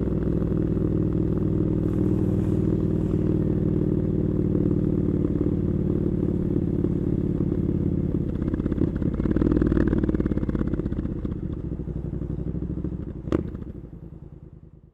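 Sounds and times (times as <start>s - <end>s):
motorcycle engine running at low revs: 0.0s - 14.9s.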